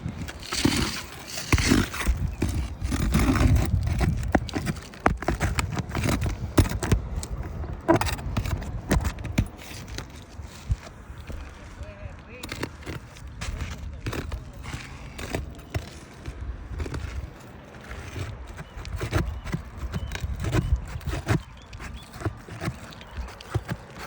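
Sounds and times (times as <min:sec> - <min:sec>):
pry bar scraping roof shingles: 0:00.0 - 0:24.0
wind rumble on microphone: 0:00.0 - 0:24.0.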